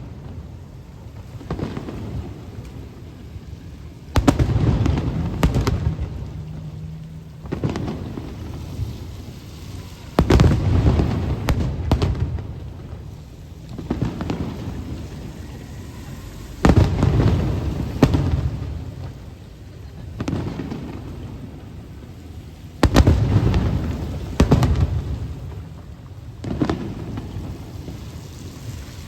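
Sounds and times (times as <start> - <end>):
rain pattering: 0.0 - 29.0
firework shells booming: 1.1 - 9.3, 10.0 - 21.7, 22.8 - 28.0.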